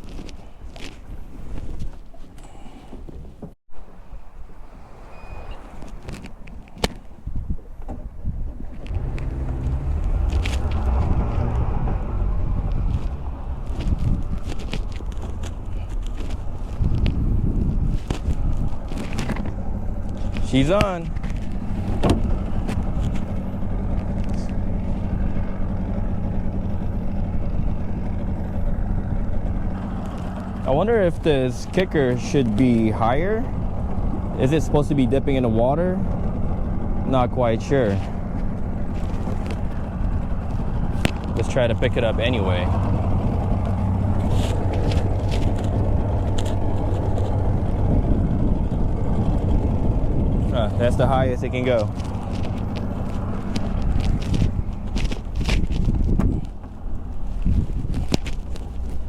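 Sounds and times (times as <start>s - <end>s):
outboard motor idling: 7.1s - 59.0s.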